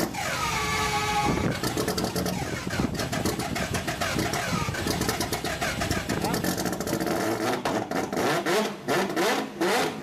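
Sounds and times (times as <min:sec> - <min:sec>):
engine revving: 0:00.0 - 0:10.0.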